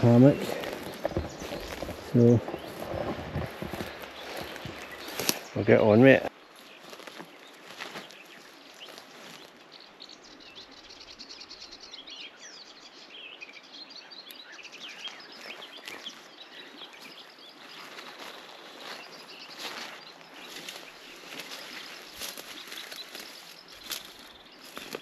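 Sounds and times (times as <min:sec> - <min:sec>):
faint outdoor hiss: 0:00.0 - 0:25.0
songbirds chirping and trilling: 0:00.0 - 0:25.0.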